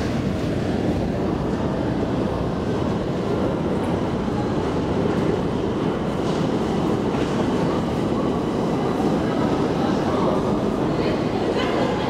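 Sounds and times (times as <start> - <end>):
elevator car rumbling: 0.0 - 12.0.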